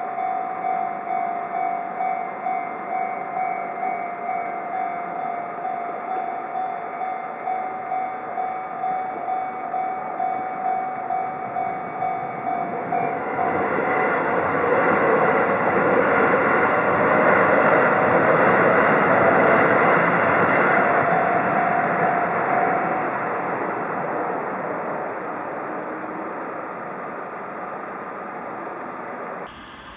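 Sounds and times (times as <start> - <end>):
railroad crossing bell dinging: 0.0 - 29.5
train passing: 0.0 - 29.9.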